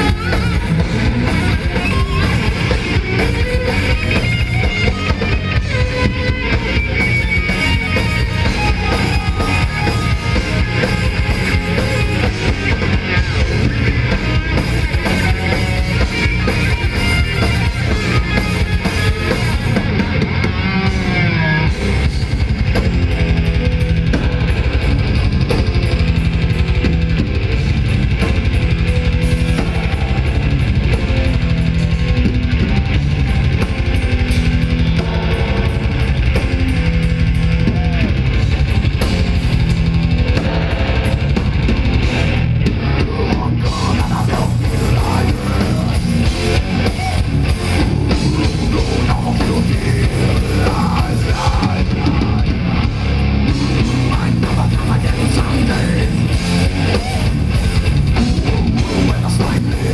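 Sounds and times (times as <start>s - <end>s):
distorted electric guitars: 0.0s - 59.9s
fast dense drums: 0.0s - 59.9s.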